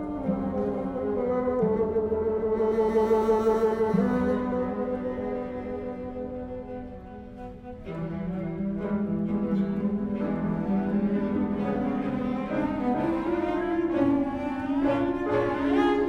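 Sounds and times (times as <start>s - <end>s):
bassoon: 0.0s - 16.0s
bowed strings: 0.0s - 16.0s.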